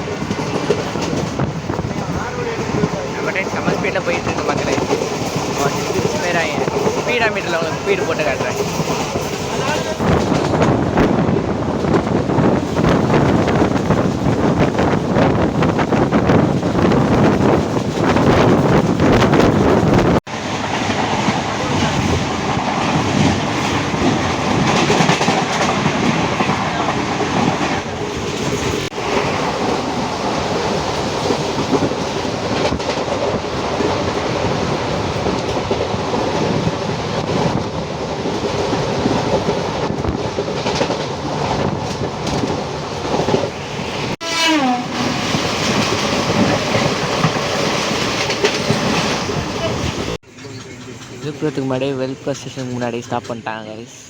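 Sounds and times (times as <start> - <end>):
wheels clacking over rail joints: 0.0 - 53.4
train coach rumble: 0.0 - 54.0.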